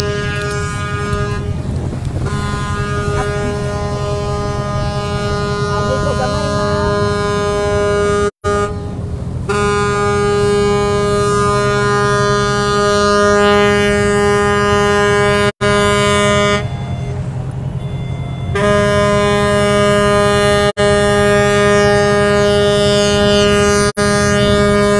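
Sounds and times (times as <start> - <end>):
ship's horn blasts: 0.0 - 24.9
speedboat engine rumble: 0.0 - 24.9.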